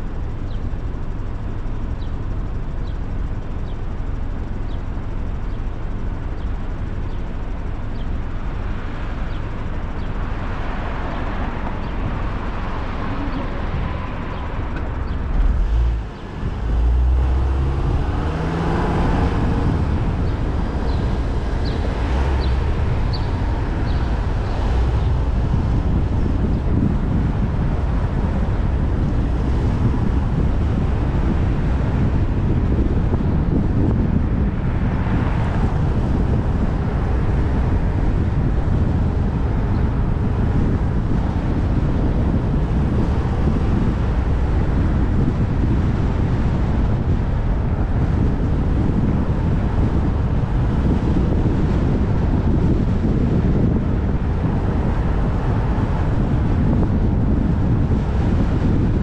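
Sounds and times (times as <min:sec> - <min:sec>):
street traffic noise: 0:00.0 - 0:59.0
wind rumble on microphone: 0:00.0 - 0:59.0.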